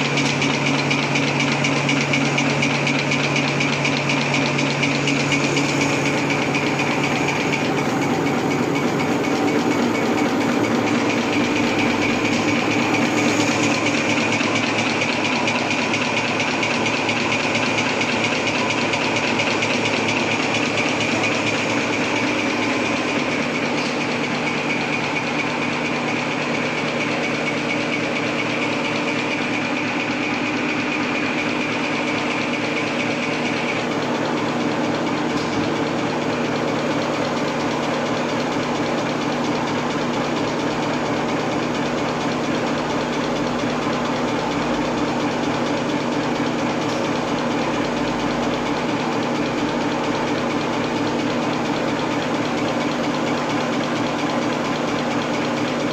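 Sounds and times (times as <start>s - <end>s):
paper folding machine running: 0.0s - 55.9s.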